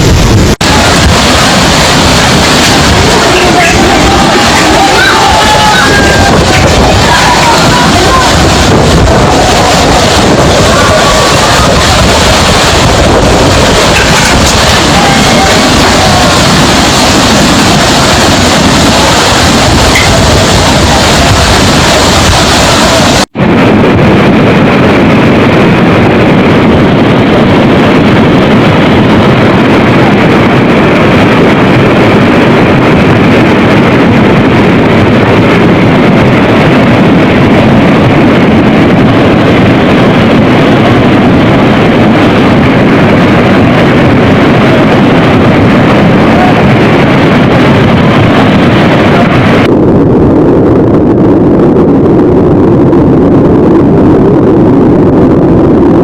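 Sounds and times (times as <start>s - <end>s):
river torrent rushing: 0.0s - 23.7s, 24.5s - 49.7s.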